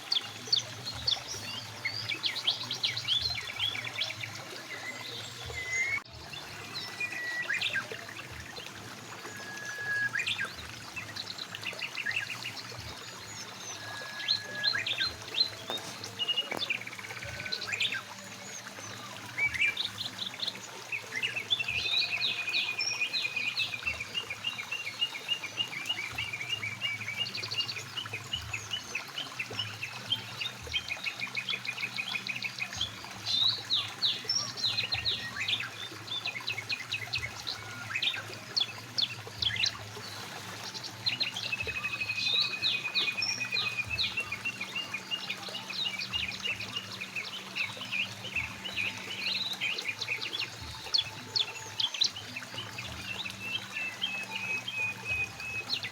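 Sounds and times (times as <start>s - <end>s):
mountain stream flowing: 0.0s - 55.9s
songbirds chirping and trilling: 0.0s - 55.9s.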